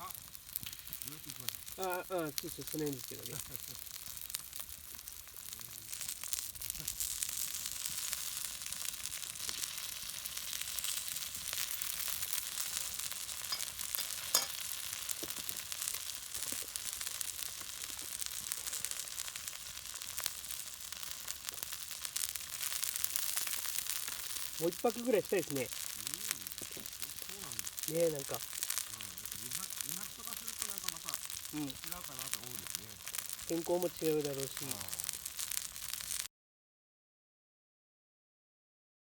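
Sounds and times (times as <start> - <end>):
sizzling crackling hiss: 0.0 - 36.3.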